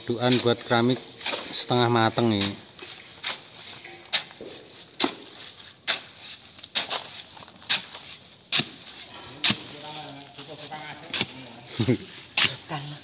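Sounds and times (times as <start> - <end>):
hoe chopping cement mortar: 0.2 - 9.9, 11.1 - 11.5, 12.3 - 12.9.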